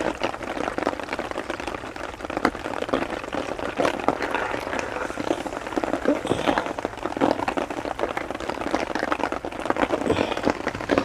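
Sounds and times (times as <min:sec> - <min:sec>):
heavy rain on a tarp: 0:00.0 - 0:11.0.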